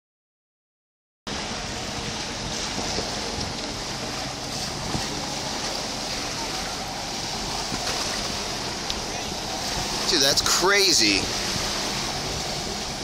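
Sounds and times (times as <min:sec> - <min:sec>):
rushing water spray hiss: 0:01.5 - 0:13.0.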